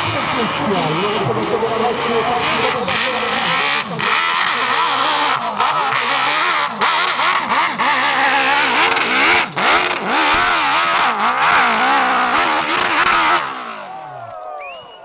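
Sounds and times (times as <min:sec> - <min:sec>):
motorcycle engine revving: 0:00.0 - 0:14.3.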